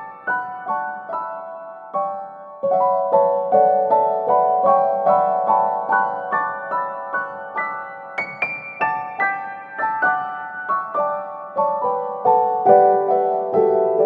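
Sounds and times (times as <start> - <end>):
gentle piano-like melody: 0.0 - 14.0.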